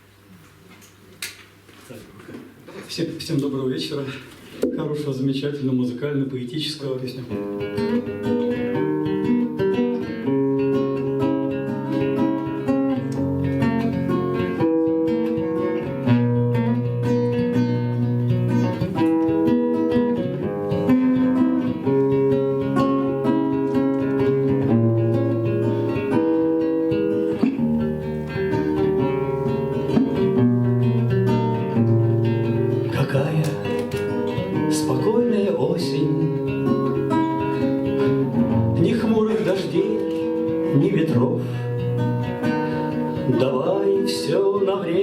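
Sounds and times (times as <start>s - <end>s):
acoustic guitar playing chords: 6.8s - 45.0s.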